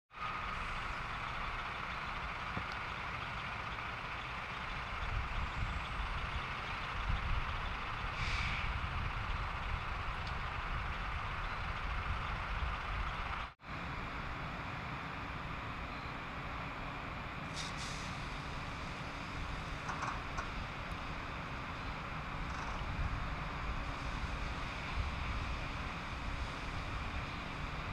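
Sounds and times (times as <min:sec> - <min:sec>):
fire engine rumbling with whine: 0:00.1 - 0:27.9.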